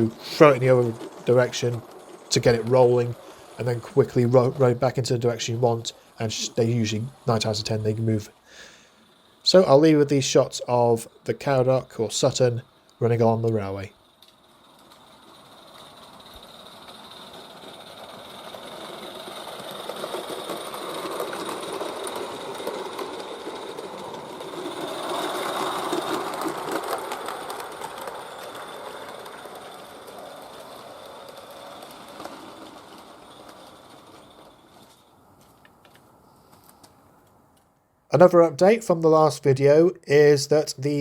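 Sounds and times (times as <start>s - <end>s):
model steam locomotive running: 0.0s - 37.0s.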